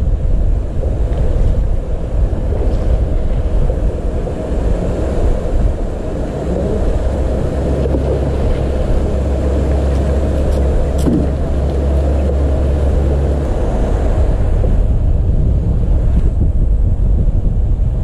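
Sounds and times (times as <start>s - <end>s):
steady low hum: 0.0s - 18.0s
wind buffeting microphone: 0.0s - 18.0s.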